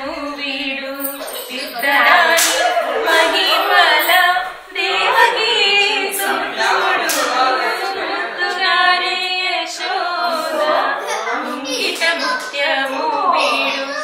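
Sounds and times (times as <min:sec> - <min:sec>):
voices singing a gliding melody: 0:00.0 - 0:14.0.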